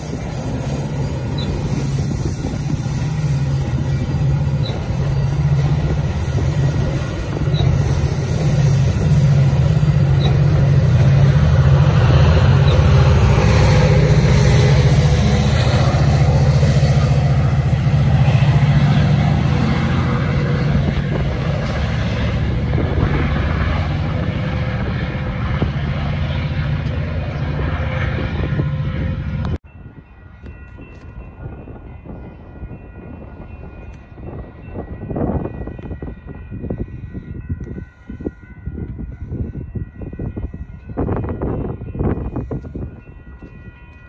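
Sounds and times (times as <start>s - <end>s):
diesel locomotive droning: 0.0s - 44.0s
train wheel and rail noise: 0.0s - 44.0s.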